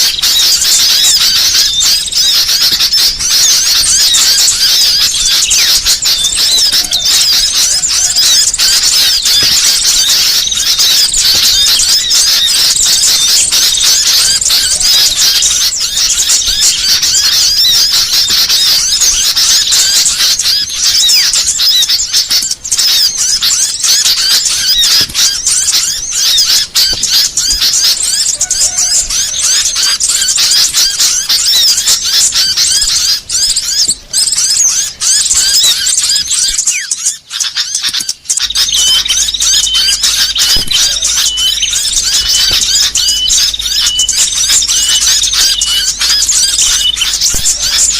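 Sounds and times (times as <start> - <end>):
small songbirds twittering: 0.0 - 47.9.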